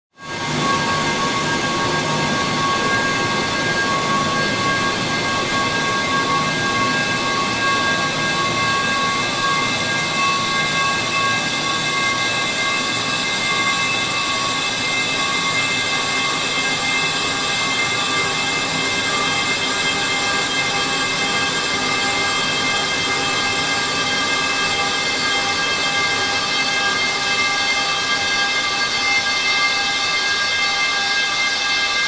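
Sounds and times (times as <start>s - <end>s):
drawn-out metallic drone: 0.3s - 32.0s.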